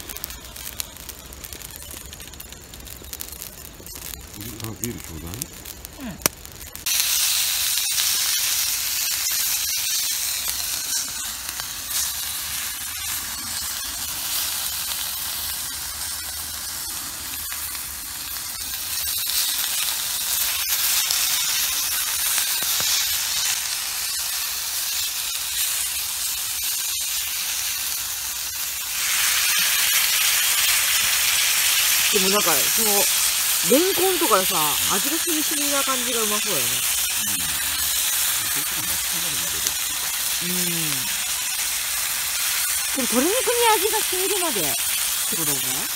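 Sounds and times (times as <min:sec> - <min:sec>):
chicken sizzling in frying pan: 0:00.0 - 0:45.9.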